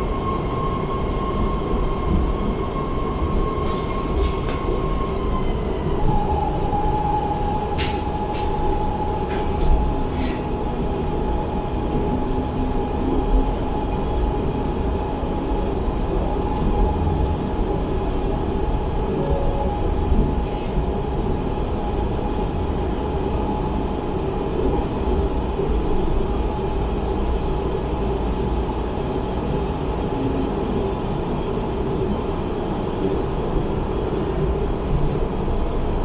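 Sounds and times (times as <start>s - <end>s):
light rail car rumble: 0.0s - 36.0s.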